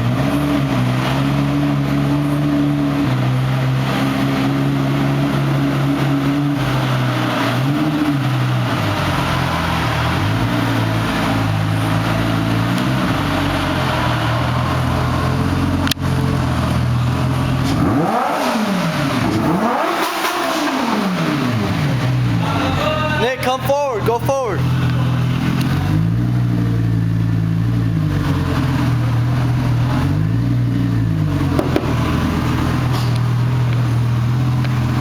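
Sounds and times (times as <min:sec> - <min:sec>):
car engine running at low revs: 0:00.0 - 0:35.0
engine revving: 0:00.0 - 0:35.0.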